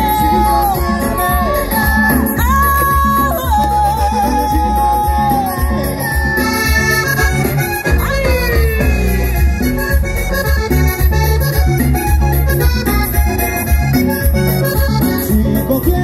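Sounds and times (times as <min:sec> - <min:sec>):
accordion: 0:00.0 - 0:16.0
band playing dance music: 0:00.0 - 0:16.0
bass and drums dance beat: 0:00.0 - 0:16.0.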